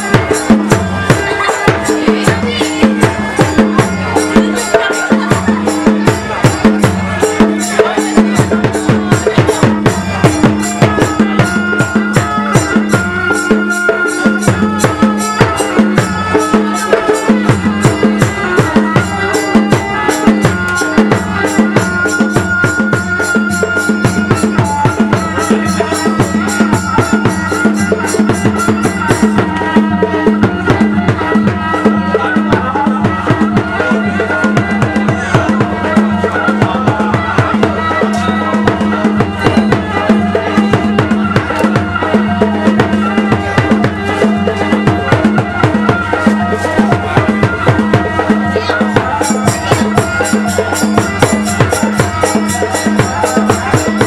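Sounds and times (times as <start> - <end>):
high held melody: 0.0 - 54.0
rapid drum beats: 0.0 - 54.0.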